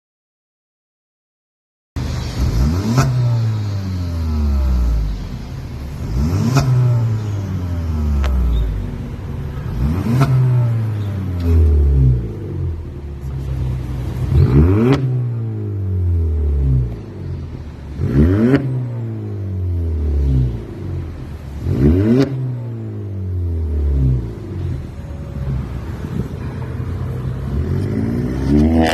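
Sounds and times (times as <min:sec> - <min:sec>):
car engine revving: 0:02.0 - 0:28.9.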